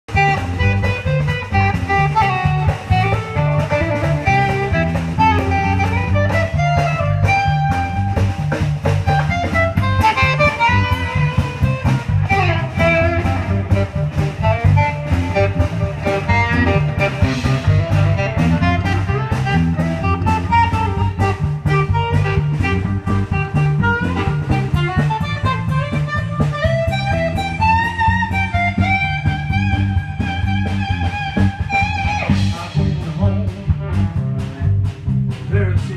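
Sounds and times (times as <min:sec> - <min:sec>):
bass guitar: 0:00.0 - 0:35.9
drum kit steady beat: 0:00.0 - 0:35.9
electric guitar lines: 0:00.1 - 0:35.9.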